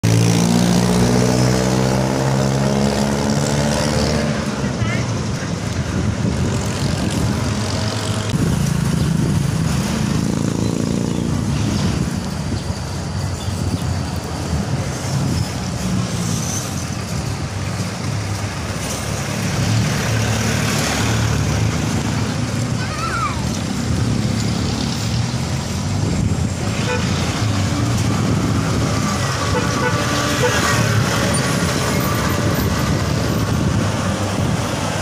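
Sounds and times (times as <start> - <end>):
diesel engine passing: 0.0 - 35.0
street traffic rumble: 0.0 - 35.0.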